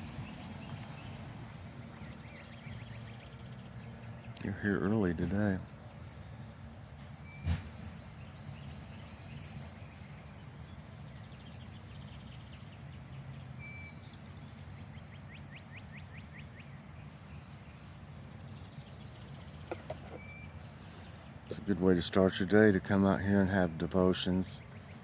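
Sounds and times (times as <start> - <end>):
low outdoor rumble: 0.0 - 25.0
small birds calling: 0.0 - 25.0.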